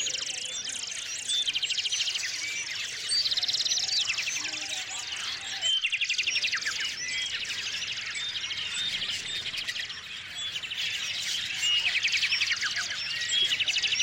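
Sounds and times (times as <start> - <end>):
bird whistled notes and trills: 0.0 - 14.0
songbirds chirping: 0.0 - 14.0.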